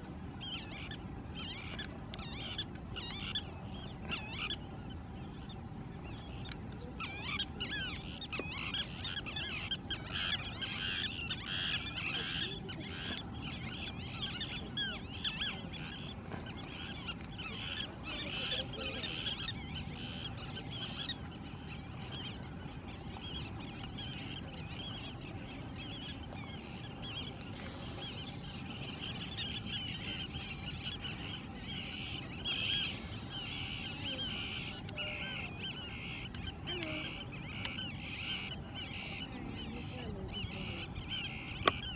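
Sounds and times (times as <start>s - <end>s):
faint hum: 0.0s - 41.9s
low background rumble: 0.0s - 41.9s
birds chirping and squawking: 0.2s - 41.9s.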